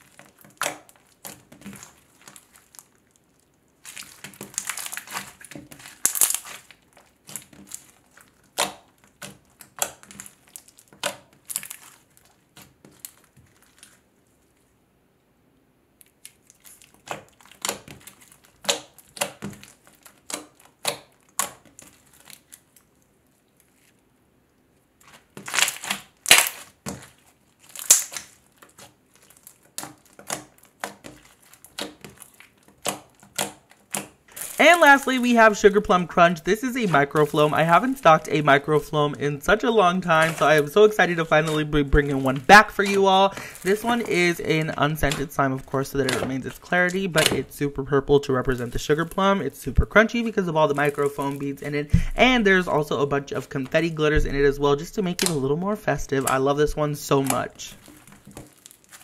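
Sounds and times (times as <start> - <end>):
slime crackling and popping: 0.0 - 14.1, 16.0 - 24.0, 24.9 - 59.0.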